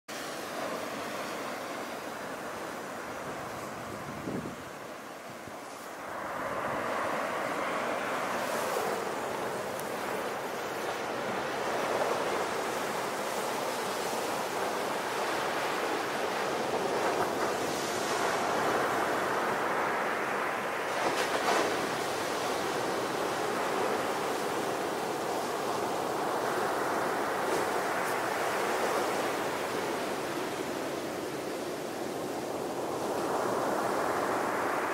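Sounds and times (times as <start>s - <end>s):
sea waves breaking on beach: 0.1s - 34.9s.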